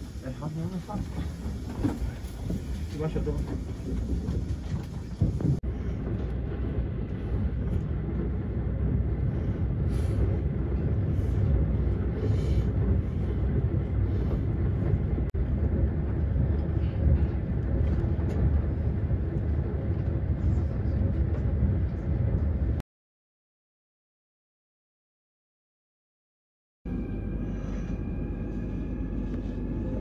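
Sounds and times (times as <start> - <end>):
train interior low rumble: 0.0 - 22.8, 26.9 - 30.0.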